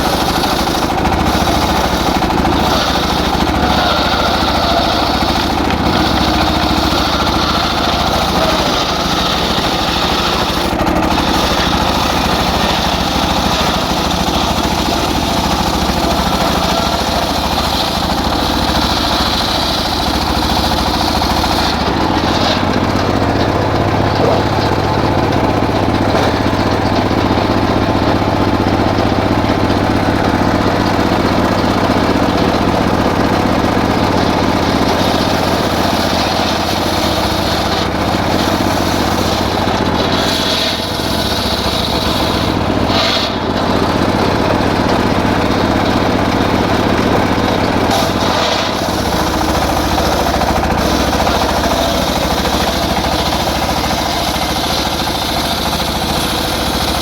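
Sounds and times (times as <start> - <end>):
circular saw engine running: 0.0 - 57.0.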